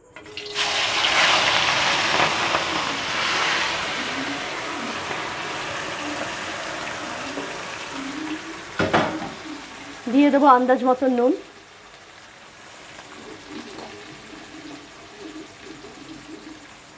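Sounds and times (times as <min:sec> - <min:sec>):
vegetables sizzling in hot oil: 0:00.3 - 0:16.9.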